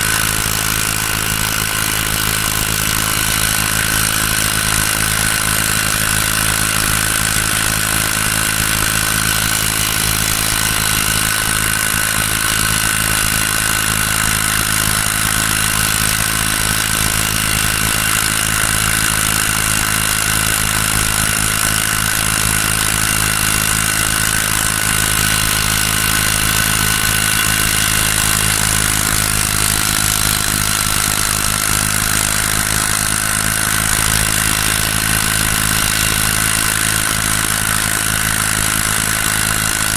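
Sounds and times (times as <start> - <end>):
small engine whining: 0.0 - 39.9.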